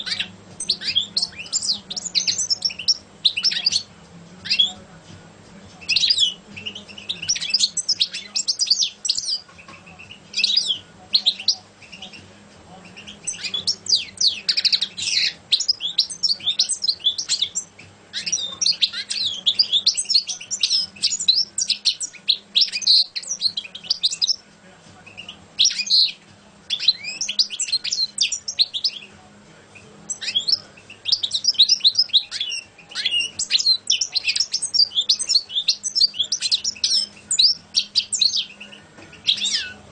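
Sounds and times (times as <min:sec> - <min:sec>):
goldfinch twittering song: 0:00.0 - 0:04.8, 0:05.8 - 0:12.2, 0:12.9 - 0:24.4, 0:25.1 - 0:29.1, 0:30.1 - 0:39.8.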